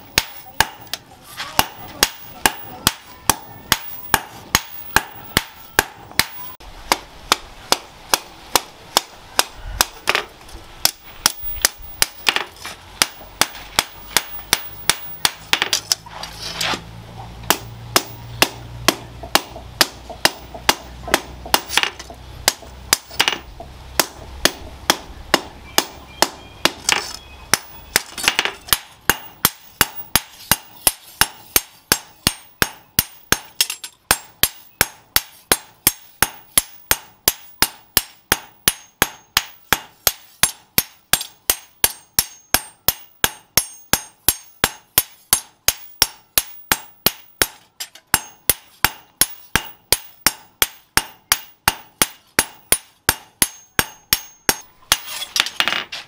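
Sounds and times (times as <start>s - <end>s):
hammer striking hot metal: 1.6s - 16.0s, 17.5s - 55.1s.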